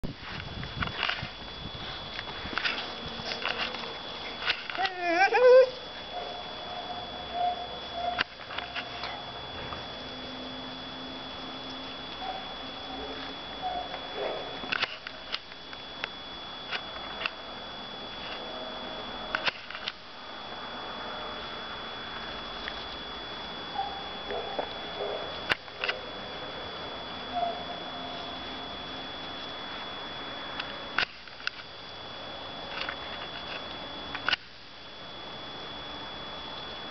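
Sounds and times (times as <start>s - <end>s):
faint high whine: 0.0s - 36.9s
camcorder hiss: 0.2s - 36.9s.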